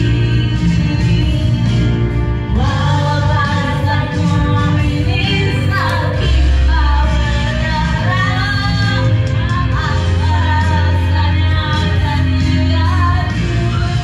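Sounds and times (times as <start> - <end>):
backing music with deep bass: 0.0 - 14.0
women singing loudly: 2.5 - 14.0.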